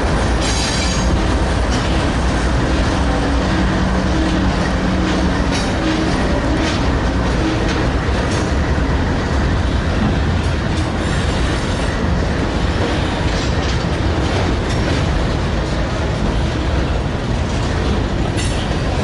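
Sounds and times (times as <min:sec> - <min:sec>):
freight train rumbling past: 0:00.0 - 0:19.0
wheels clicking over rail joints: 0:00.0 - 0:19.0.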